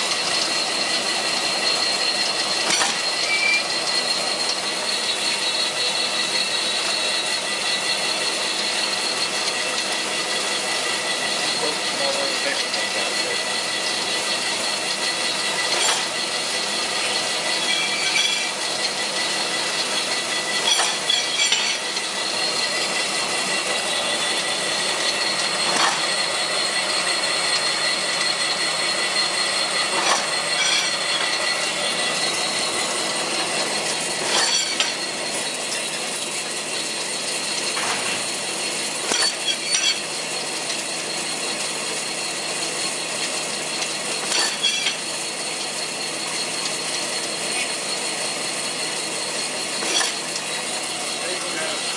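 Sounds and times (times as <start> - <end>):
sharp machine clack: 0.0 - 51.9
thin high machine whine: 0.0 - 51.9.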